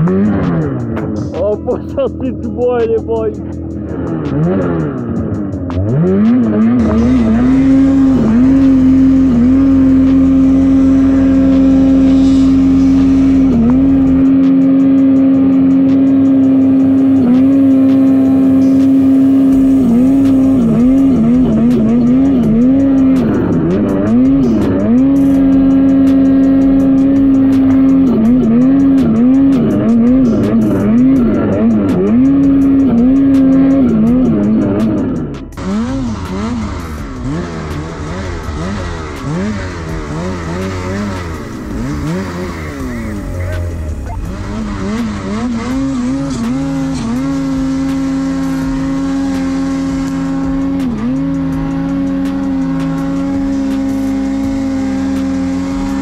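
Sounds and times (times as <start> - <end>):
snowmobile engine at high revs: 0.0 - 56.0.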